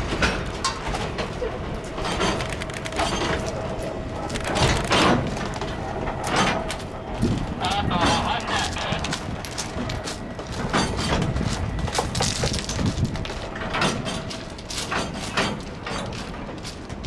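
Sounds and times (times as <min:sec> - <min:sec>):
freight wagons rumbling on track: 0:00.0 - 0:17.0
wheels and couplings clanking: 0:00.0 - 0:17.0.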